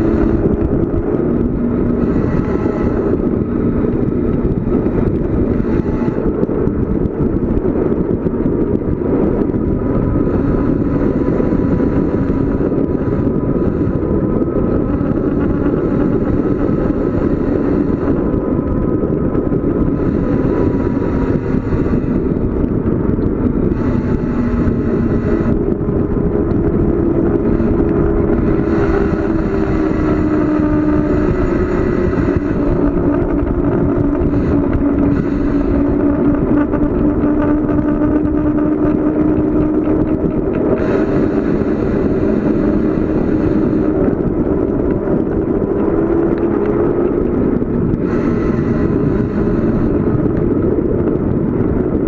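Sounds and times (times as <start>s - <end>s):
bicycle road noise: 0.0s - 52.0s
low wavering hum: 0.0s - 52.0s
rushing air: 0.0s - 52.0s.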